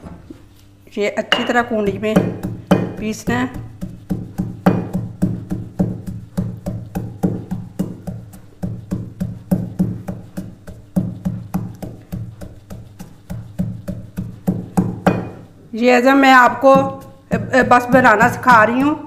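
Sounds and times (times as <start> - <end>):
pestle pounding in mortar: 1.3 - 15.5, 16.3 - 19.0.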